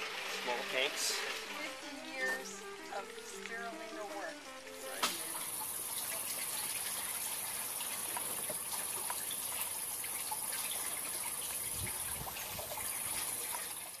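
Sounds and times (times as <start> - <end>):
high constant hiss: 0.0 - 14.0
water trickling and splashing: 0.0 - 14.0.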